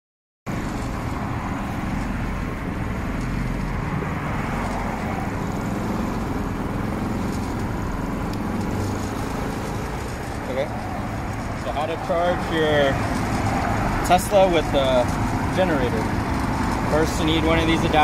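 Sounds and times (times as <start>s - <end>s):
generator engine running: 0.5s - 18.0s.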